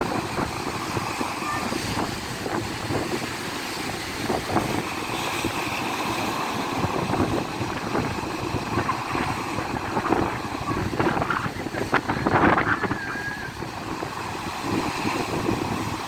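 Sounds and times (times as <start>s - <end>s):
sea waves rushing: 0.0s - 16.0s
wind buffeting microphone: 0.0s - 16.0s.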